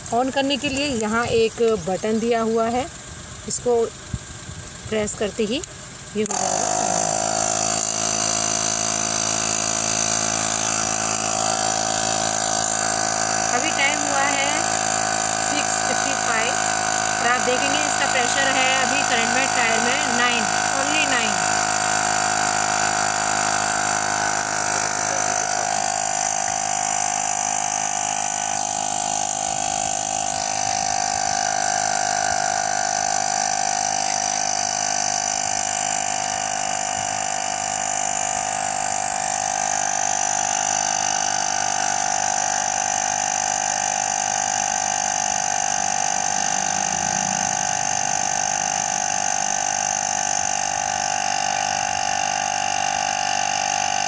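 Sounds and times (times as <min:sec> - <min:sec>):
electric air compressor running: 0:00.0 - 0:54.0.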